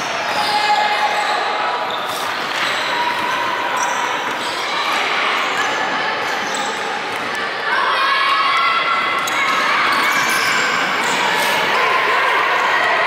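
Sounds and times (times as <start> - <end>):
echoing din of voices: 0.0 - 13.0.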